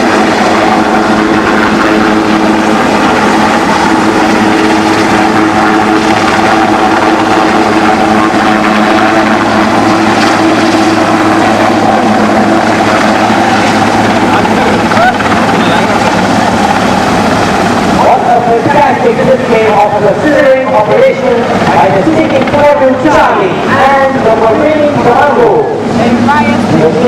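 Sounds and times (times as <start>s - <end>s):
low aircraft engine hum: 0.0s - 27.0s.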